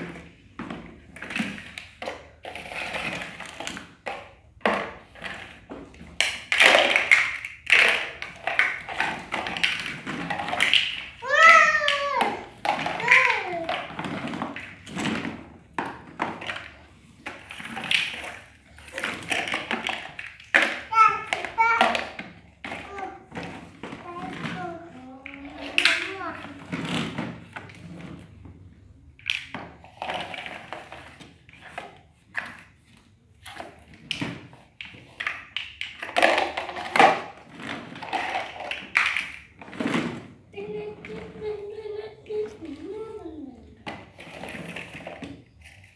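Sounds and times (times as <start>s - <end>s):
plastic blocks clattering on tiles: 0.0s - 45.9s.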